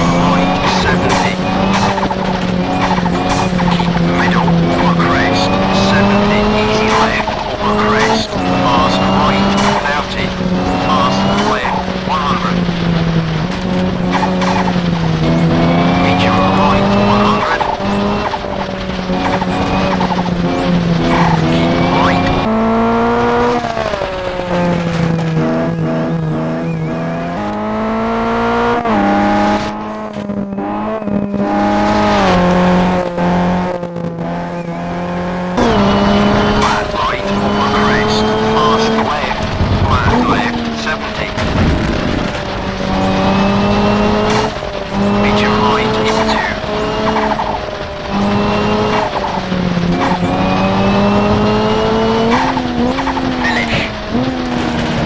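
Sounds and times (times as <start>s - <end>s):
turbocharged car engine under load: 0.0s - 55.0s.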